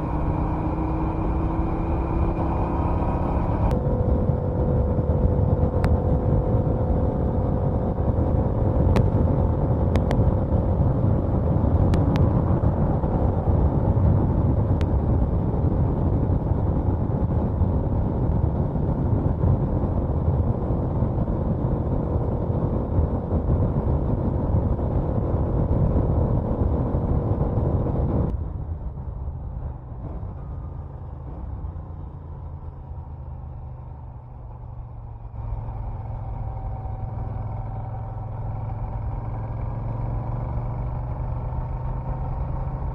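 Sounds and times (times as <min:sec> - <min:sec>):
motorcycle engine running: 0:00.0 - 0:42.9
quieter lower engine sound: 0:00.0 - 0:42.9.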